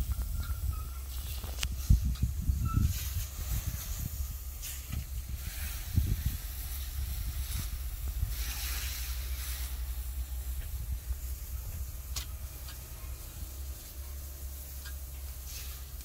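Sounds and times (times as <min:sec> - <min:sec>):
wind buffeting microphone: 0:00.0 - 0:13.8
hiss: 0:00.0 - 0:16.0.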